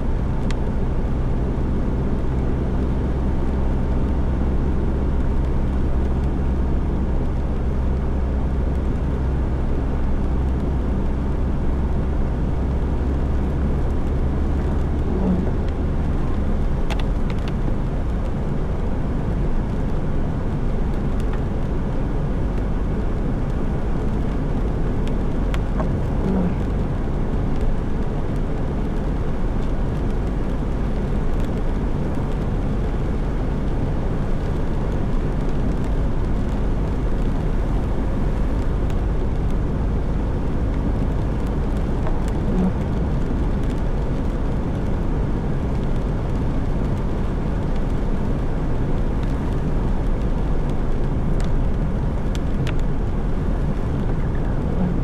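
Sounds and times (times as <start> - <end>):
car engine hum: 0.0 - 55.0
road noise: 0.0 - 55.0.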